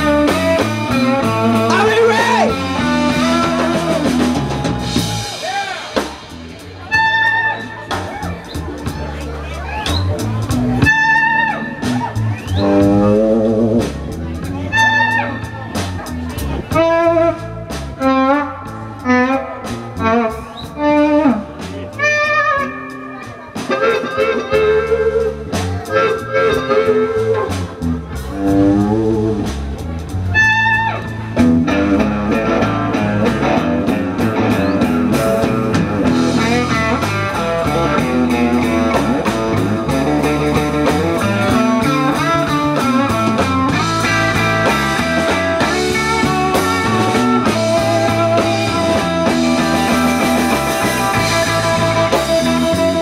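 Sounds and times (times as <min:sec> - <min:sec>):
blues band playing: 0:00.0 - 0:53.0
electric guitar lead: 0:00.0 - 0:53.0.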